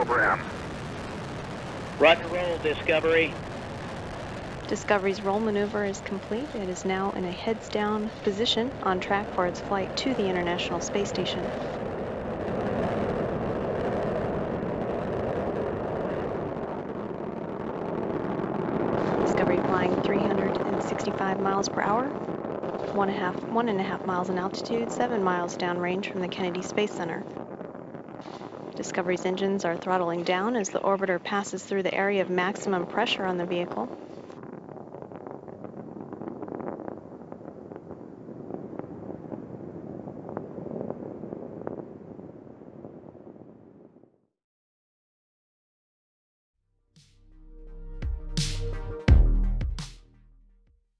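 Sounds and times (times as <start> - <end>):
rocket engines roaring: 0.0 - 42.6
sharp crackling pops: 0.0 - 43.6.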